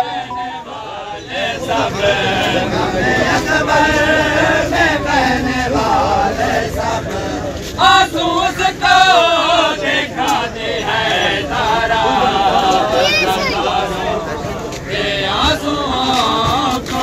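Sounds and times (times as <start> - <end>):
men chanting together: 0.4 - 17.0.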